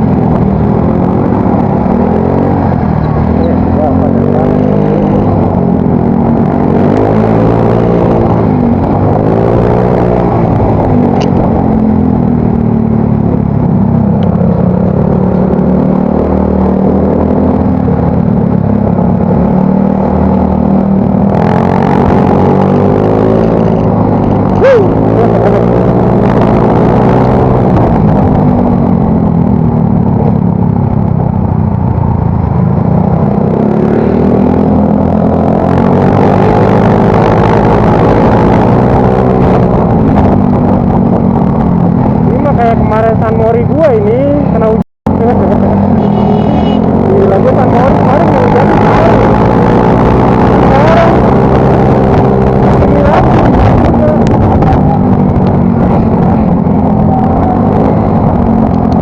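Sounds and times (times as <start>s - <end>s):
tone sweeping up and down: 0.0s - 59.0s.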